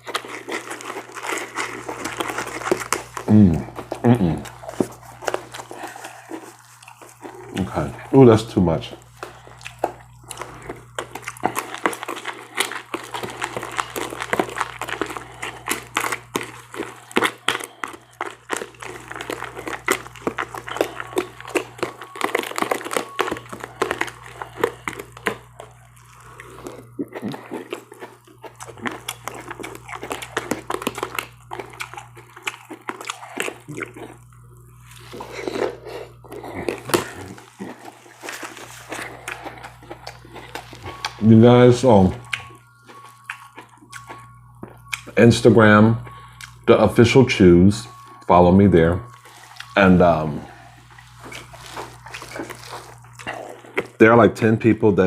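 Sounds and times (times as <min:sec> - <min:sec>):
crunching cereal chewing: 0:00.0 - 0:54.5.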